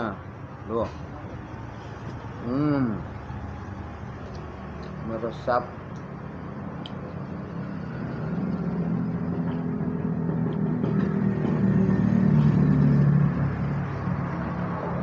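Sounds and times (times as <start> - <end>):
vehicle engine passing: 1.0 - 15.0.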